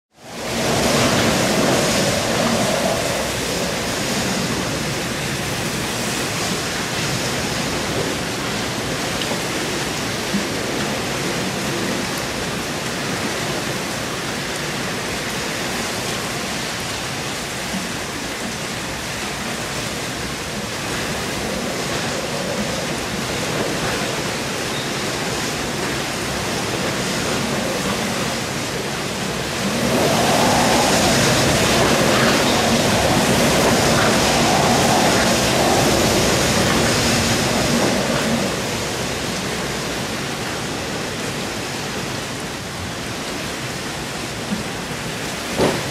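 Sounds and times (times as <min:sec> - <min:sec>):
wind: 0:00.0 - 0:45.9
rain: 0:00.1 - 0:45.9.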